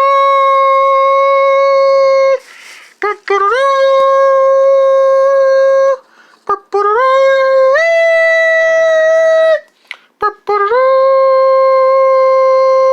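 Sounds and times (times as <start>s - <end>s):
person singing high notes: 0.0s - 12.9s.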